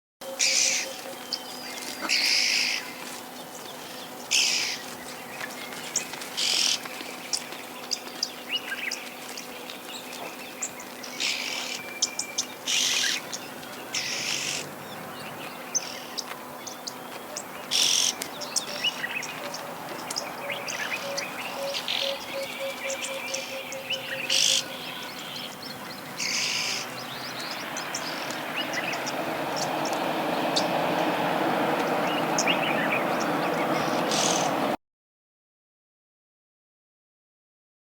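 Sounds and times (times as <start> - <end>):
birds giving harsh hissing calls: 0.3 - 34.7.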